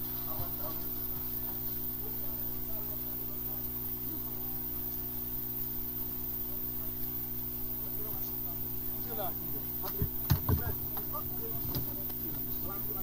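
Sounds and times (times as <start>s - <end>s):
low buzzing hum: 0.0s - 13.0s.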